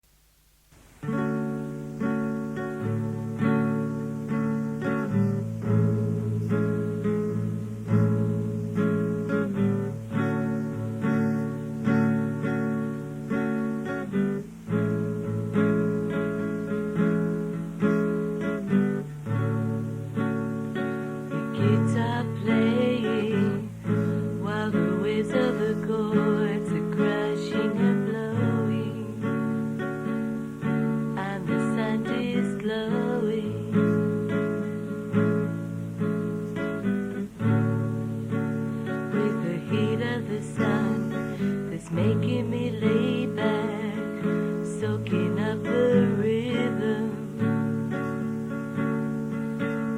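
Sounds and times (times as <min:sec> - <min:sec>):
acoustic guitar song: 0:00.0 - 0:49.9.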